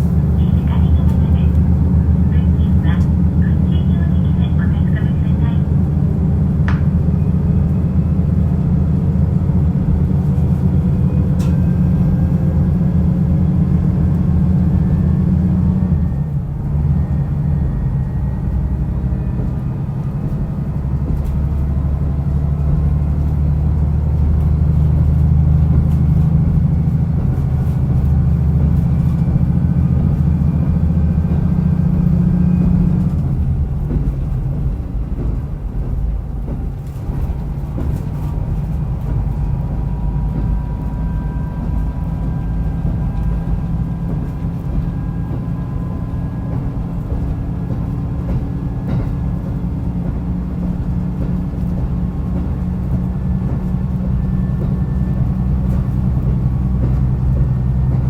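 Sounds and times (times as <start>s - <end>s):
diesel railcar engine drone: 0.0s - 58.0s
wheel and track noise: 0.0s - 58.0s.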